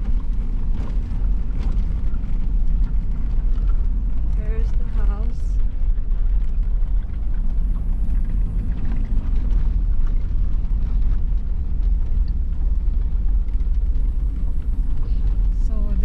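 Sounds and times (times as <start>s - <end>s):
vehicle engine and ride rumble: 0.0s - 16.0s.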